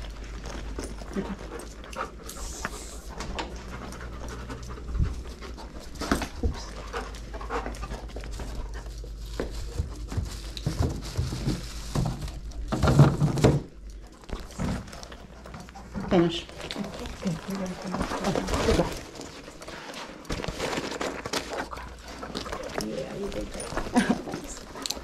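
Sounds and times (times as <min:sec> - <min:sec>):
dog panting and sniffing: 0:00.0 - 0:13.0, 0:13.8 - 0:25.0.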